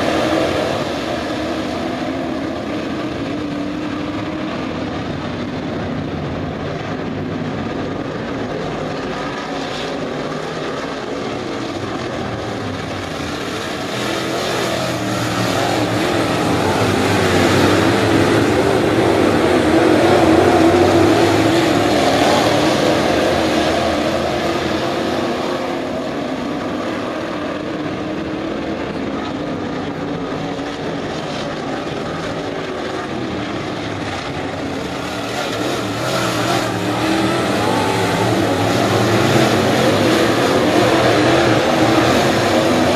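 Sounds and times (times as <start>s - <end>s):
race car engines passing: 0.0s - 42.9s.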